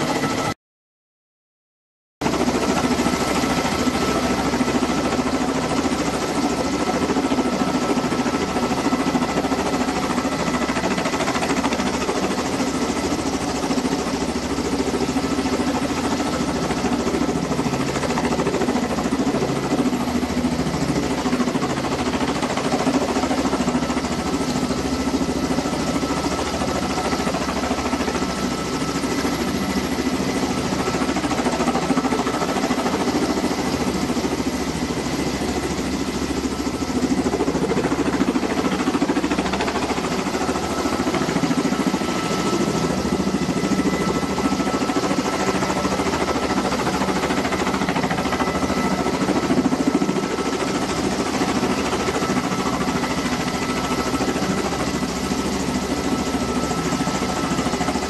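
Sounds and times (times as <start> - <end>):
helicopter rotors and turbines: 0.0 - 0.6, 2.2 - 58.0.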